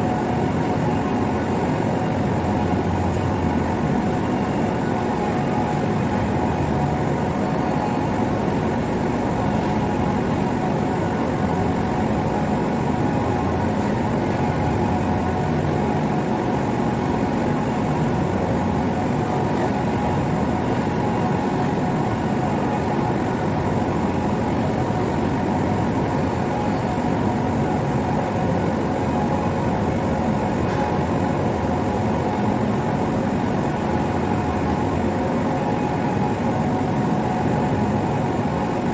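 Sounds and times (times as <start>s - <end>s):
industrial machinery drone: 0.0s - 38.9s.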